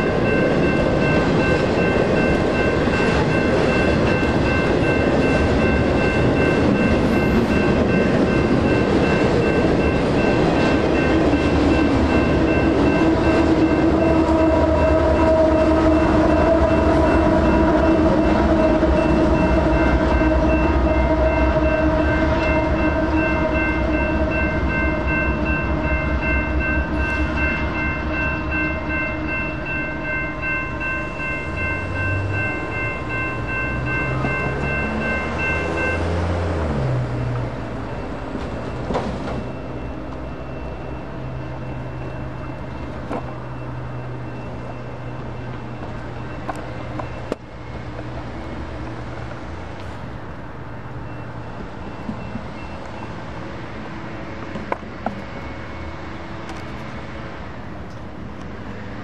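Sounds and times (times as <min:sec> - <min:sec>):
crossing bells ringing: 0:00.0 - 0:59.0
freight train rumbling: 0:00.0 - 0:59.0.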